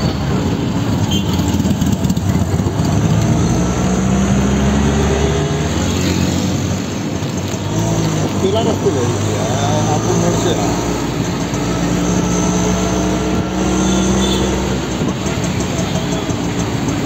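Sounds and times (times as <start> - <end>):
auto-rickshaw engine running: 0.0 - 17.0
road and traffic noise: 0.0 - 17.0.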